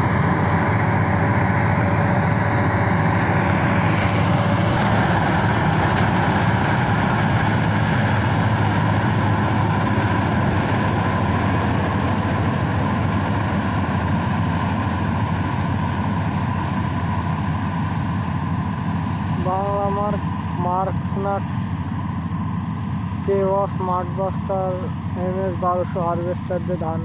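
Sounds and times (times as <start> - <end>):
combine harvester engine hum: 0.0 - 27.0
machinery noise: 0.0 - 27.0.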